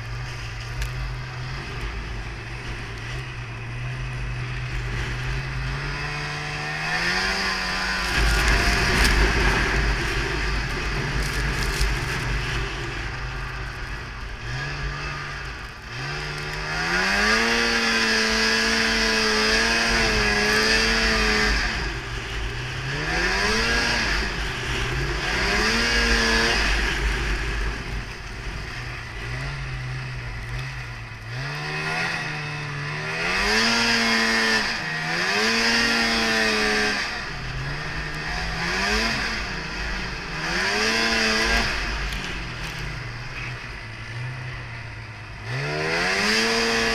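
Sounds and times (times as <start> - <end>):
snowmobile engine revving: 0.0 - 46.9.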